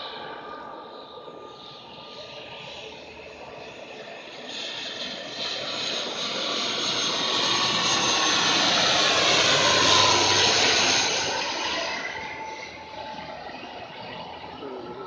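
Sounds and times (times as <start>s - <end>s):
turboprop plane passing overhead: 0.0s - 15.0s.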